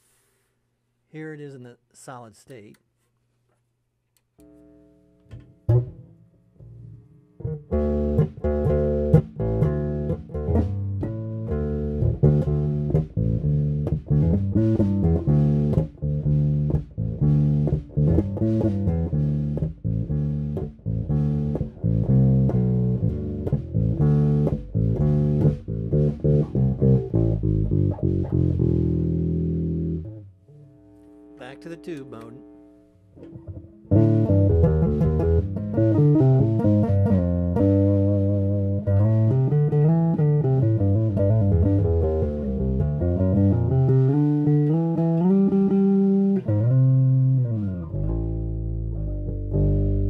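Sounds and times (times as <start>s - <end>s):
electric bass guitar: 4.4s - 50.0s.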